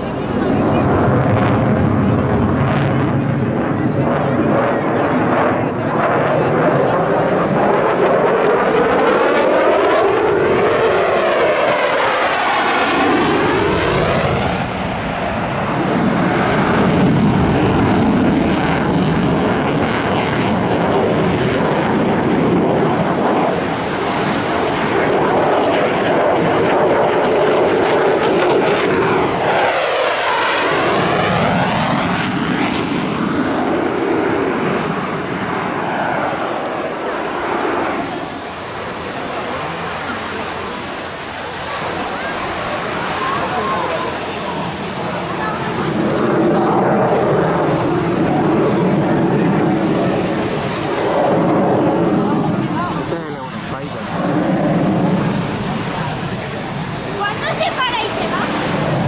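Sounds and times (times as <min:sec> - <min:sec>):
jet roar passing by: 0:00.0 - 0:59.0.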